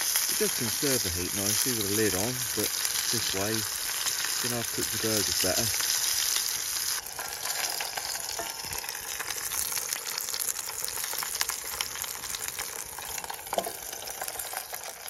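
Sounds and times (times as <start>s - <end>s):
burgers sizzling in a frying pan: 0.0s - 15.0s
fire crackling and popping: 0.0s - 15.0s.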